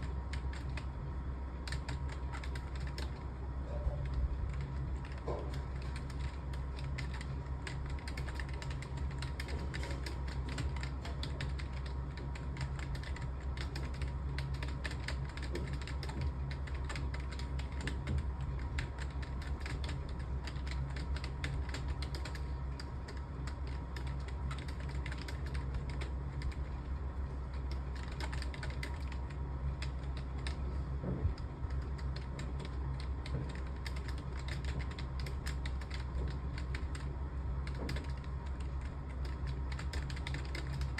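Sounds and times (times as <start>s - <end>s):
fast keyboard typing: 0.0s - 40.9s
steady low hum: 0.0s - 40.9s.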